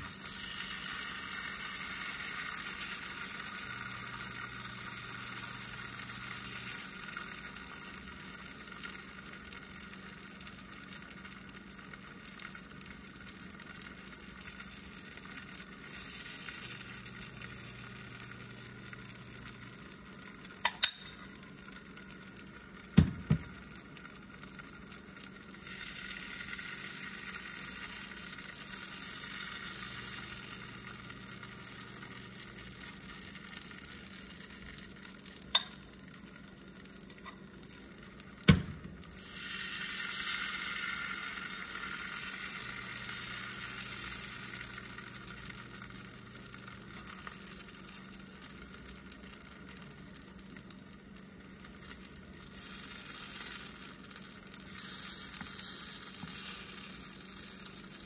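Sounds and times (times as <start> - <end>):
batter sizzling in oil: 0.0 - 58.0.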